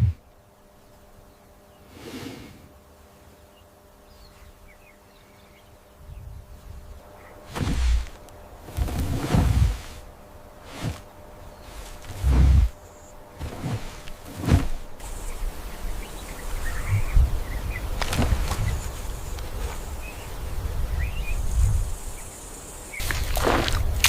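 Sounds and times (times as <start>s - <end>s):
high insect buzz: 0.0s - 24.0s.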